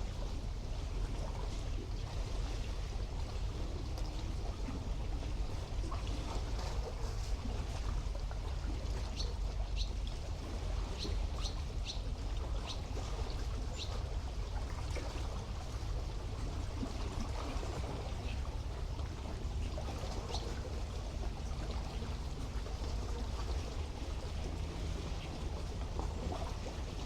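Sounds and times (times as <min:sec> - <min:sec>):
sea water lapping at shore: 0:00.0 - 0:27.0.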